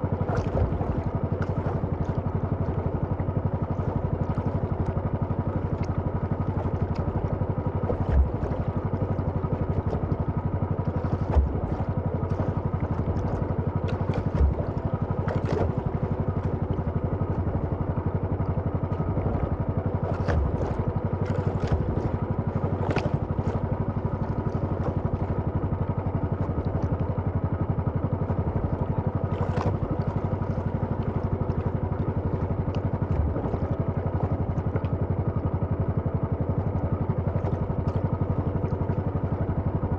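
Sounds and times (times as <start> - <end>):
small engine running: 0.2 - 39.5.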